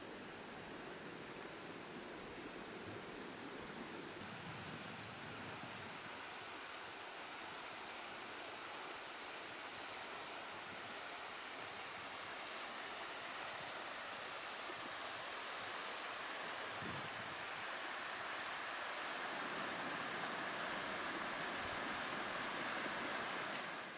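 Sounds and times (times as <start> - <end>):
steady outdoor hiss: 0.0 - 23.9.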